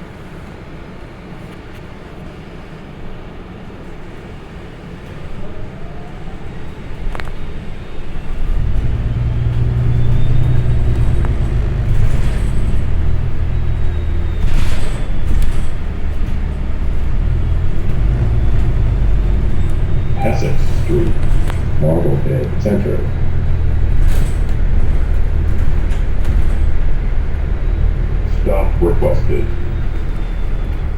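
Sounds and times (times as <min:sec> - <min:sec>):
bus engine rumble: 0:00.0 - 0:30.9.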